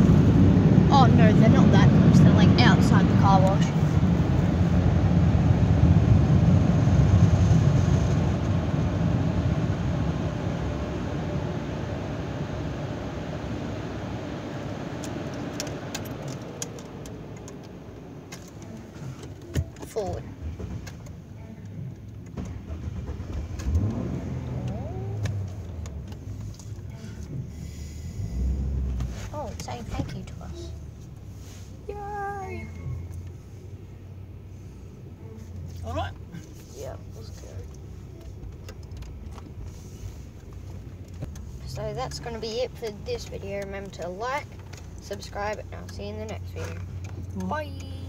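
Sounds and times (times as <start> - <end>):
car wash air blowers rumbling: 0.0 - 21.5, 22.3 - 48.0.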